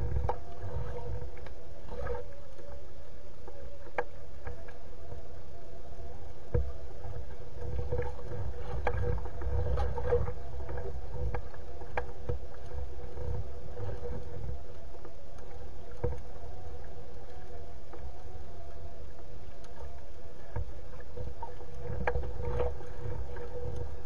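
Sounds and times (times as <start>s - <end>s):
faint steady hum: 0.0s - 24.0s
lake water lapping and sloshing: 0.0s - 24.0s
wind rumble on microphone: 0.0s - 24.0s.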